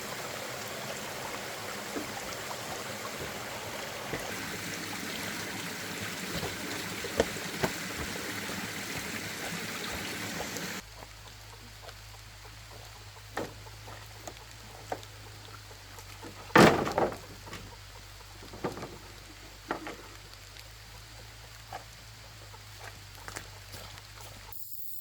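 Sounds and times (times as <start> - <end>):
running water: 0.0 - 24.5.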